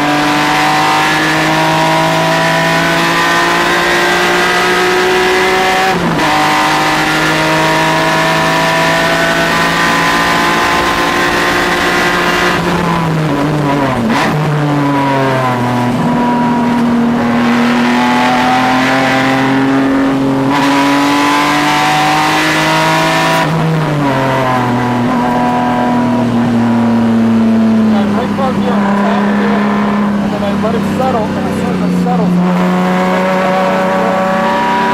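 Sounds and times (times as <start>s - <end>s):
car engine at high revs: 0.0s - 34.9s.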